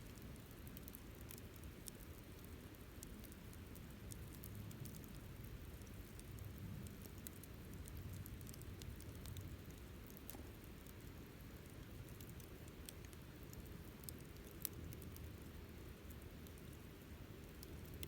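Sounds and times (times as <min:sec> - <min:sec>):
campfire crackling and popping: 0:00.0 - 0:15.5, 0:17.4 - 0:18.0.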